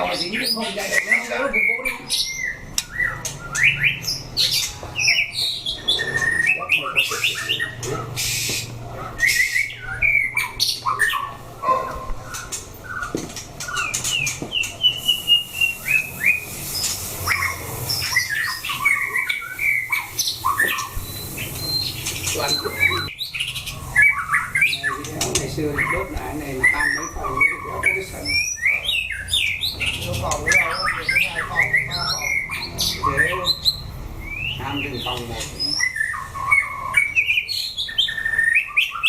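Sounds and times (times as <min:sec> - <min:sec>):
songbird singing whistled notes: 0:00.0 - 0:39.0.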